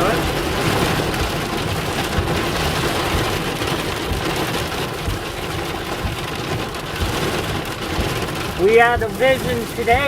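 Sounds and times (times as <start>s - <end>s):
heavy rain on van body: 0.0s - 10.0s
wind gusts buffeting van: 0.0s - 10.0s.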